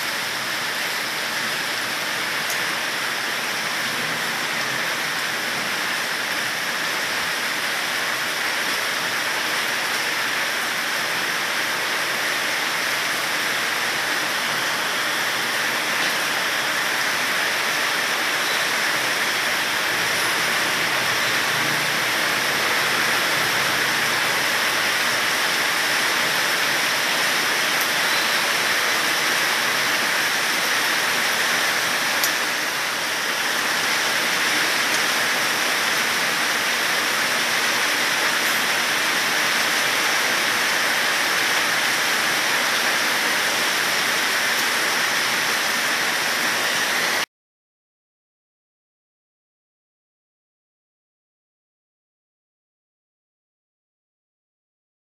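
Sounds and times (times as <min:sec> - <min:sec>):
steady rain falling: 0:00.0 - 0:47.3.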